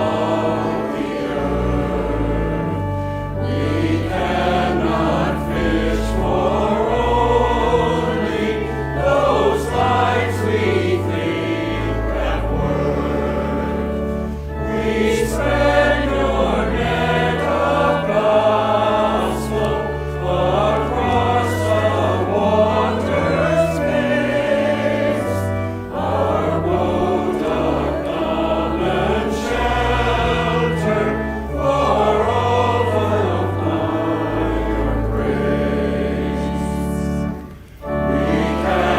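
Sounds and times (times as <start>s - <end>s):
congregation singing a hymn: 0.0s - 38.9s
steady low accompaniment: 0.0s - 38.9s.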